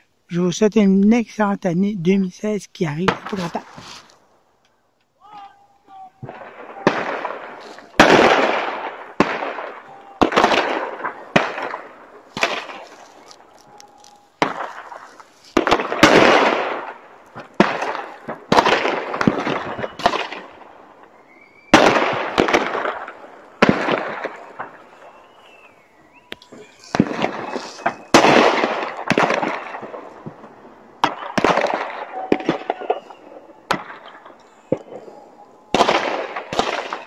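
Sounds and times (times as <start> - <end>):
fireworks exploding: 2.4 - 4.4, 5.2 - 37.0.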